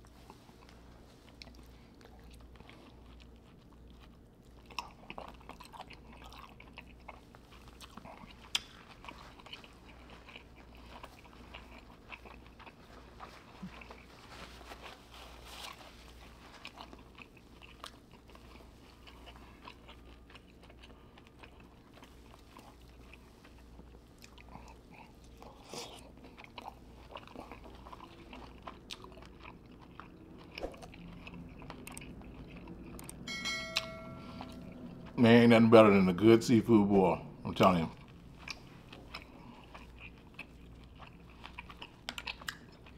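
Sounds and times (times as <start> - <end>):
person chewing and biting: 0.0 - 33.3, 37.9 - 42.9
steady low hum: 0.0 - 42.9.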